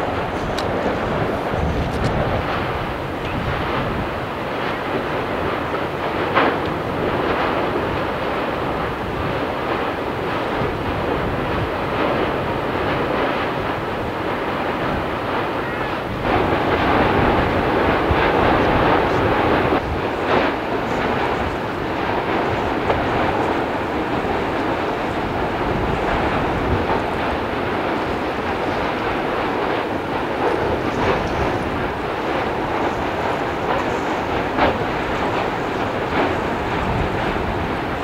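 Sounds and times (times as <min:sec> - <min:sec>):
lava rumbling rush: 0:00.0 - 0:38.0.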